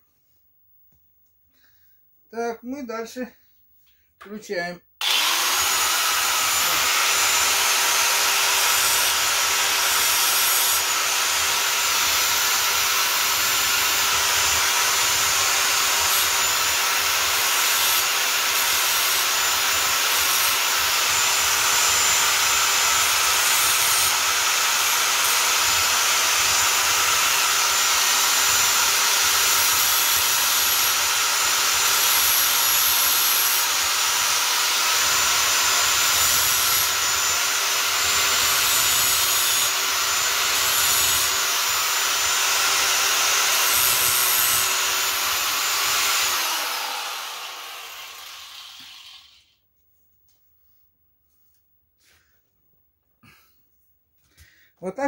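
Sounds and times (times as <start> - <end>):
angle grinder grinding steel: 5.0 - 49.6.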